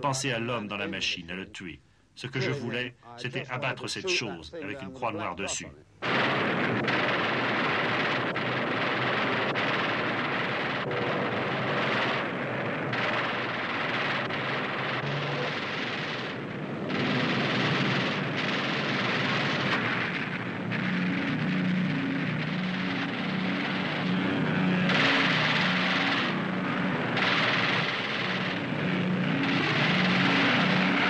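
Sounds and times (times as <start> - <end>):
aircraft engines droning: 6.0 - 31.0
machine-gun fire: 6.0 - 31.0.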